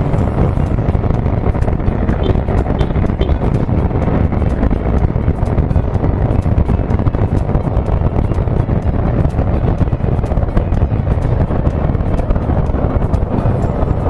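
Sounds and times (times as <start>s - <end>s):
wind buffeting on microphone: 0.0s - 14.0s.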